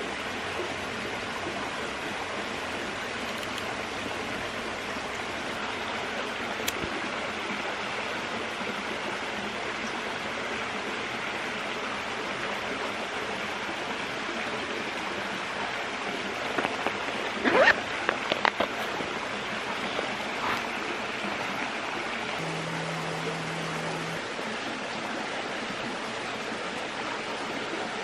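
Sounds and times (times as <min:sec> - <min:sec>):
creek flowing over rocks: 0:00.0 - 0:28.0.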